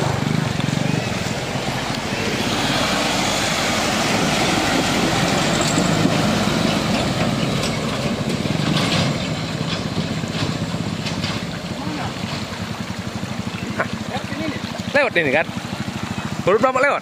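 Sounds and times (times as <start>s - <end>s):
dump truck engine running: 0.0s - 17.0s
water splashing from wheels: 0.0s - 17.0s.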